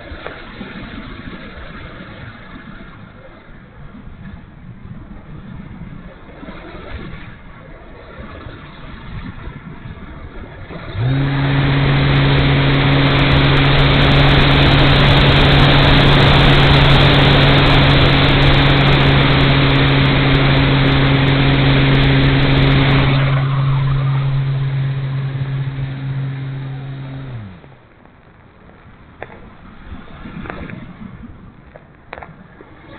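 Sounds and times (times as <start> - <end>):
electric motor and propeller: 0.0 - 32.9.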